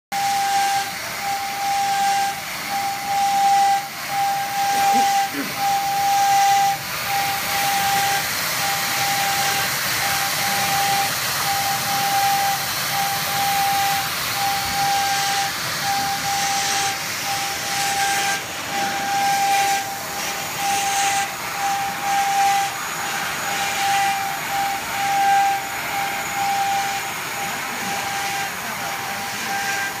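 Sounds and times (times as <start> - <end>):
high machine whine: 0.1 - 30.0.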